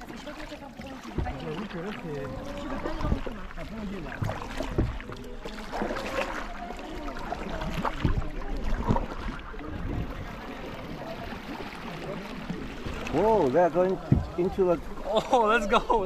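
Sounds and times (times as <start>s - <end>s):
paddle knocking against kayak: 0.0s - 10.7s, 11.4s - 15.0s
paddle strokes splashing water: 0.0s - 16.0s.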